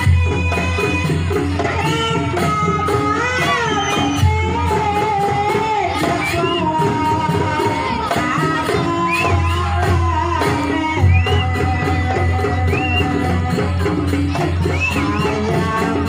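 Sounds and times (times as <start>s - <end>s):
folk music with drums: 0.0s - 16.0s.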